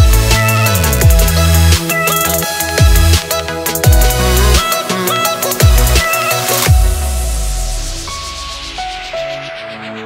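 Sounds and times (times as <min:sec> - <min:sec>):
sliding bass notes: 0:00.0 - 0:08.6
electronic music with heavy beat: 0:00.0 - 0:10.0.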